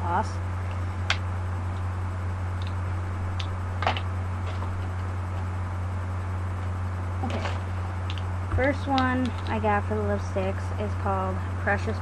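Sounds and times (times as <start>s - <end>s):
low electrical hum with hiss: 0.0s - 12.0s.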